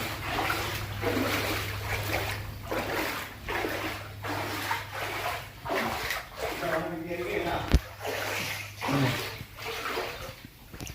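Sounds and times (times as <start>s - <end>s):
steady low hum: 0.0s - 10.9s
water sloshing and splashing: 0.0s - 10.9s.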